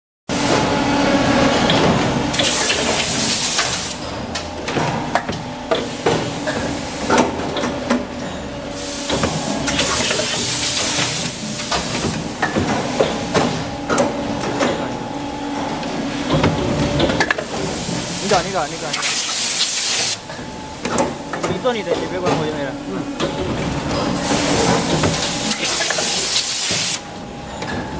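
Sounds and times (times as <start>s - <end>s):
hydraulic machine humming: 0.3s - 27.9s.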